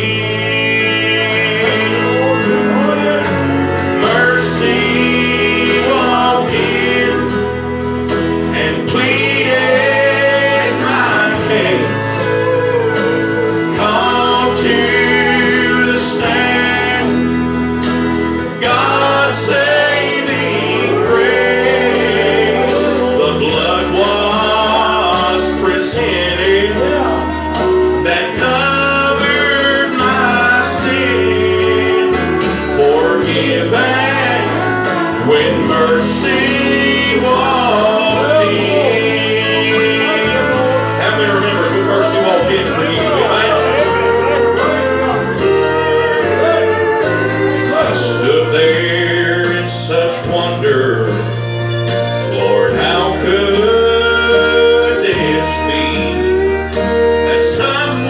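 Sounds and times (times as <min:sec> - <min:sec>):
man singing into microphone: 0:00.0 - 0:17.6, 0:18.3 - 0:51.6, 0:52.2 - 0:58.0
instrumental accompaniment: 0:00.0 - 0:58.0
steady bass line: 0:00.0 - 0:58.0.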